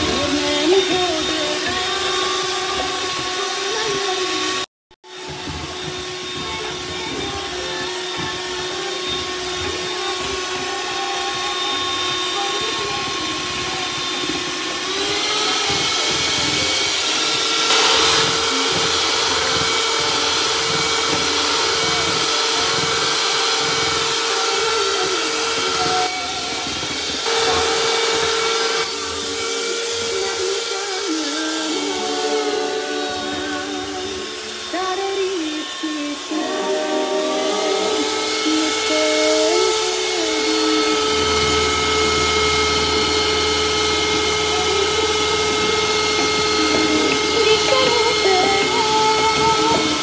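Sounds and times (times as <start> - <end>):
electric hand mixer whisking: 0.0 - 50.0.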